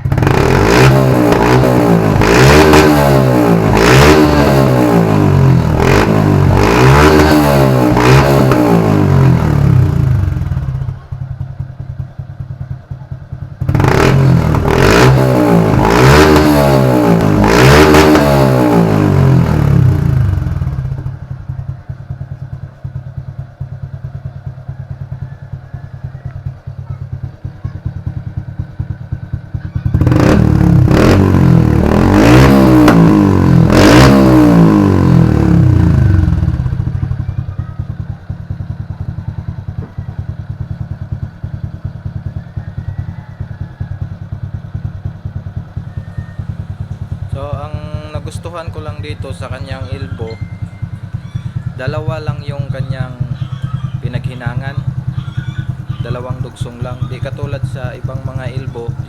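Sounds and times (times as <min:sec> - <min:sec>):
motorcycle engine idling: 0:00.0 - 0:59.0
motorcycle throttle blips: 0:00.0 - 0:59.0.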